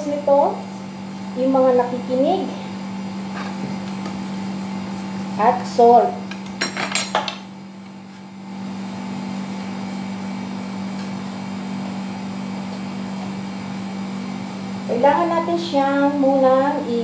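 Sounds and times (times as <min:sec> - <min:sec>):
appliance hum: 0:00.0 - 0:17.0.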